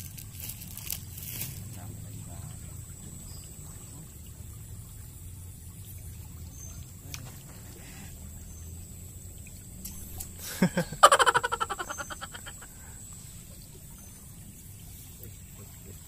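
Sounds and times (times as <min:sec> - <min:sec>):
flowing stream water: 0:00.0 - 0:16.0.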